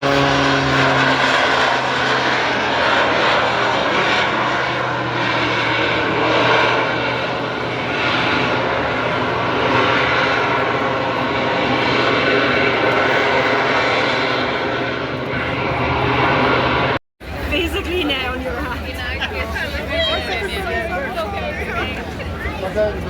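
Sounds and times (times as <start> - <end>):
aircraft engine drone: 0.0 - 23.0.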